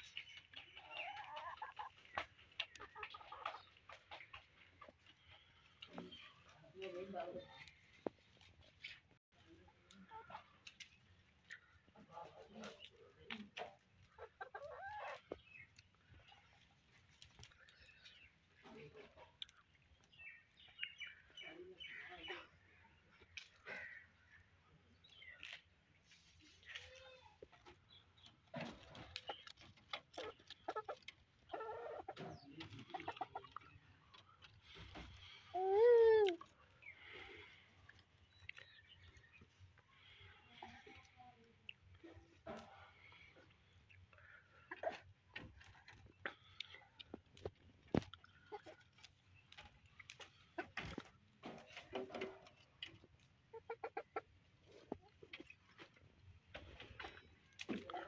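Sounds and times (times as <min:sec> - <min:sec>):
chickens clucking: 0:00.0 - 0:35.5, 0:36.3 - 0:58.0.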